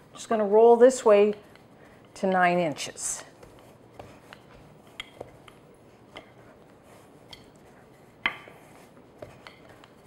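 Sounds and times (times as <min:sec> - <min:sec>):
rolling pin rolling dough: 0:00.0 - 0:10.0.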